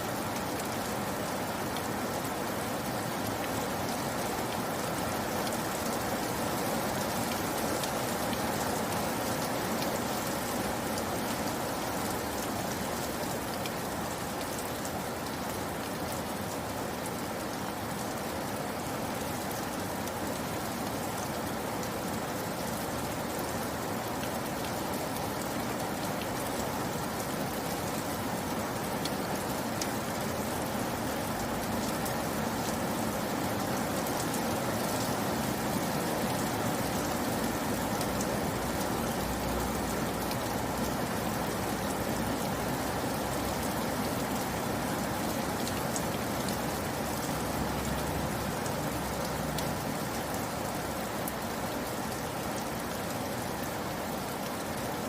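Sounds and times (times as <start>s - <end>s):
rain drops ticking: 0.0s - 55.0s
rain pattering: 0.0s - 55.0s.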